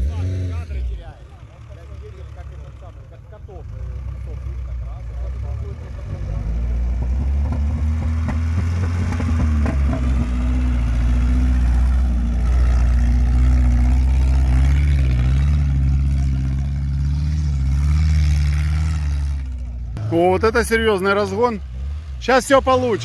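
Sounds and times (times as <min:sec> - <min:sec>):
car engine under load: 0:00.0 - 0:23.0.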